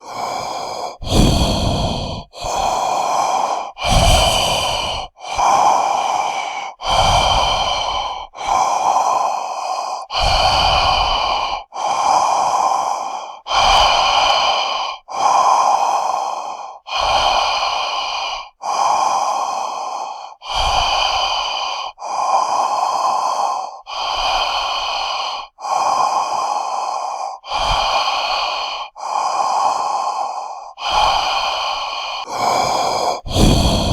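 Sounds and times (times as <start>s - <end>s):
heavy monster breathing: 0.0s - 33.9s.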